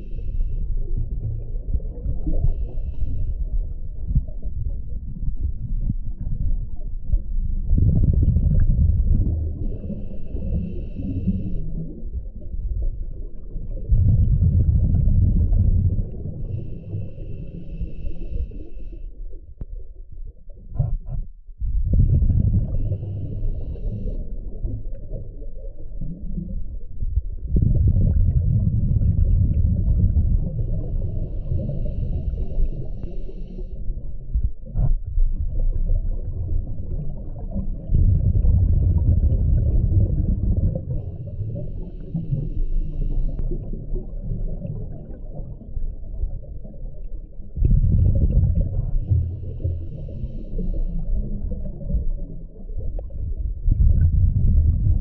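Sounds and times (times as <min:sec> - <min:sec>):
underwater bubbling of exhaled bubbles: 0:00.0 - 0:55.0.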